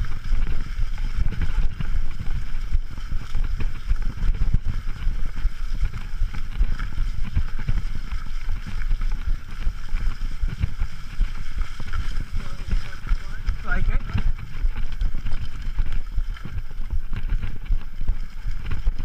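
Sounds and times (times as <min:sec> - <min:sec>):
bike rattling over dirt trail: 0:00.0 - 0:19.0
wind buffeting microphone: 0:00.0 - 0:19.0.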